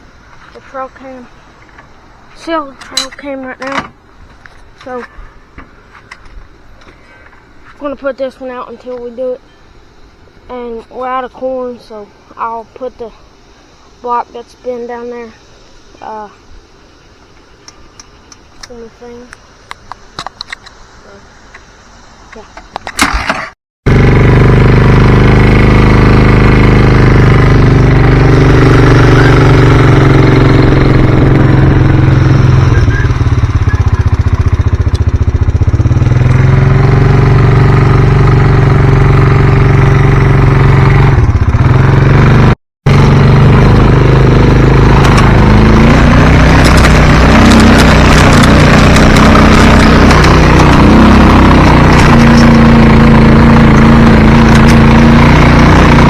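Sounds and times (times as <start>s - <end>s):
vehicle engine running: 0.0s - 15.3s, 23.9s - 56.0s.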